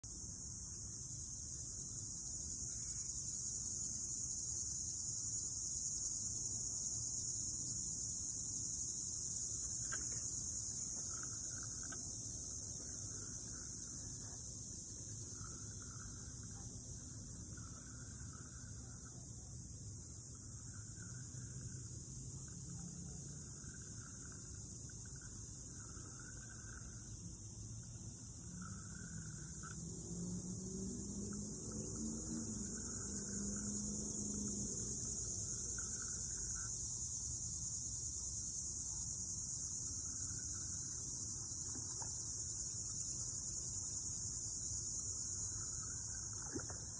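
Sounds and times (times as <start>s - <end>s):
insect chorus trilling: 0.0s - 46.9s.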